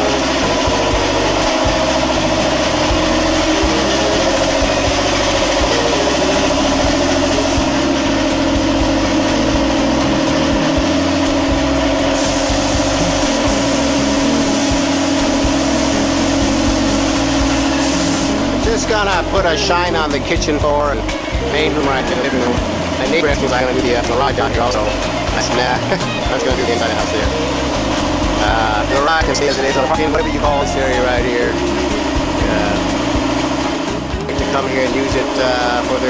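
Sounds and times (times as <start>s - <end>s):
air compressor humming and hissing: 0.0s - 36.0s.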